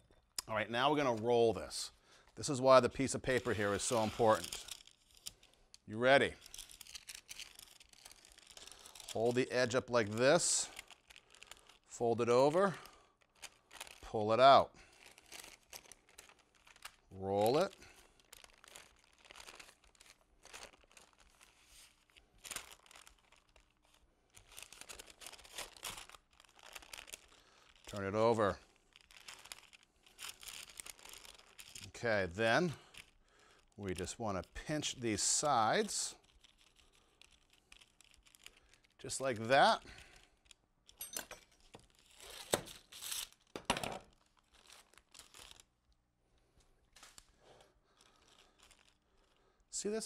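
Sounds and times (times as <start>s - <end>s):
parchment paper rustling and crinkling: 0.9s - 40.6s, 41.6s - 45.7s, 46.4s - 49.5s.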